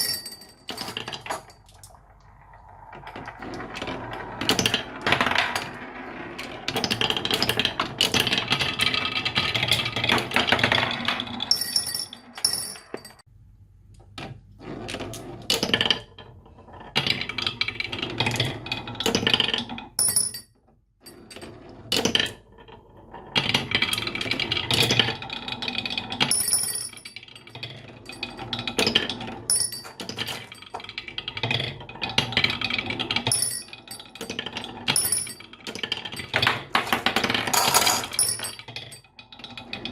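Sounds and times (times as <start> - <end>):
marbles rolling down wooden track: 0.0 - 13.2, 14.6 - 20.0, 21.1 - 39.9.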